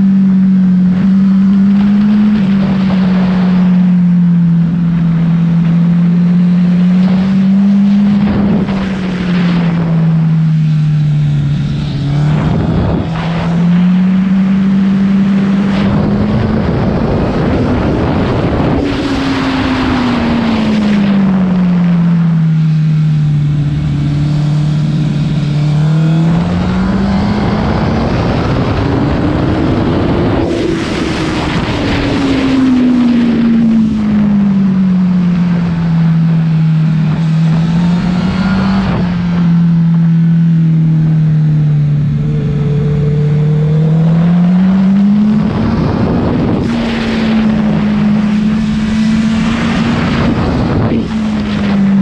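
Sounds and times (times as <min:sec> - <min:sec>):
motorcycle engine revving: 0:00.0 - 0:52.0
wind rushing over microphone: 0:00.0 - 0:52.0.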